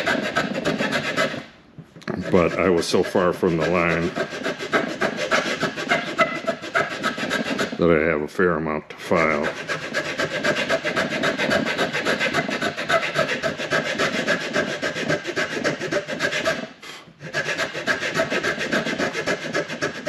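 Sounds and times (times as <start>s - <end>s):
file rasping on wood: 0.0s - 8.0s, 9.2s - 20.0s.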